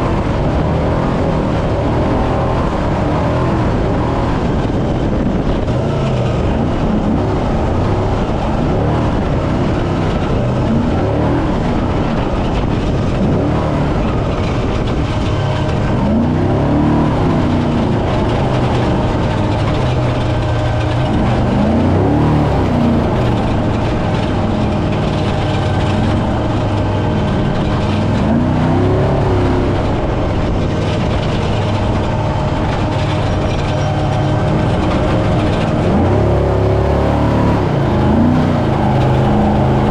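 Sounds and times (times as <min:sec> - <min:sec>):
heavy rush of driving noise: 0:00.0 - 0:39.9
truck engine revving: 0:00.0 - 0:39.9.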